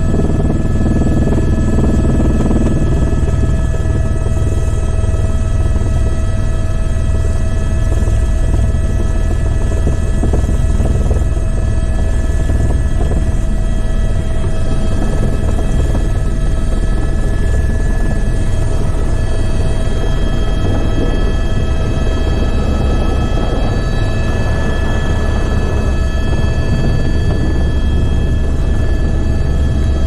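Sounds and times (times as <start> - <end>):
helicopter rotor and engine noise: 0.0 - 30.0.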